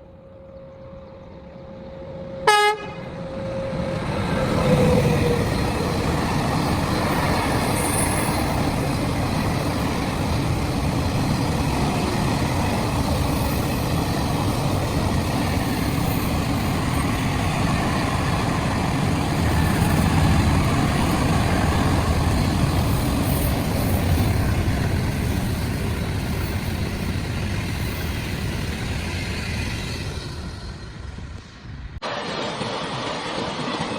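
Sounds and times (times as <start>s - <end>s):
train wheels rumbling on rails: 0.6s - 33.9s.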